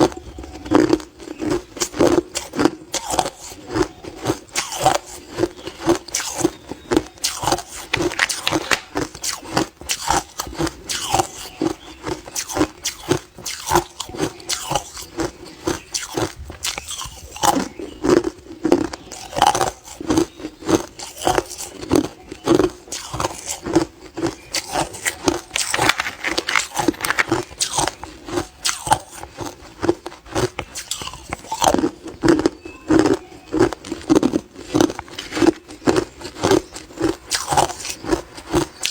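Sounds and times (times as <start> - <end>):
person crunching ice: 0.1 - 11.6, 12.2 - 18.3, 18.9 - 22.2, 22.8 - 32.1, 33.5 - 38.9.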